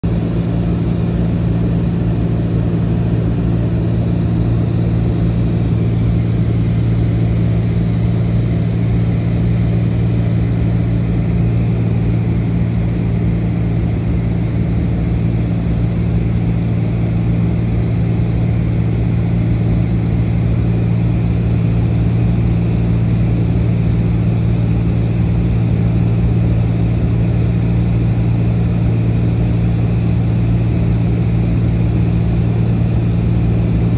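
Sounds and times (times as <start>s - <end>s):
small aircraft engine droning: 0.0s - 33.9s.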